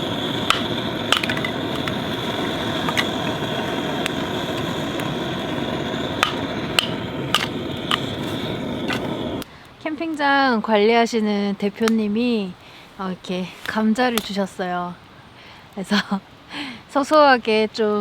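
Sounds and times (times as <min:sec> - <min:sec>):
firewood crackling and popping: 0:00.0 - 0:15.9.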